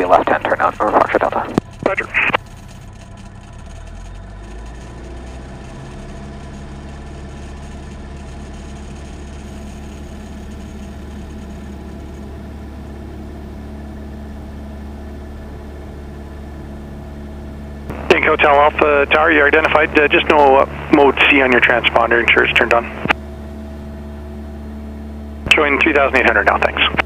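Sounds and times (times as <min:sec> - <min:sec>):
airplane engine and propeller drone: 0:00.0 - 0:27.0.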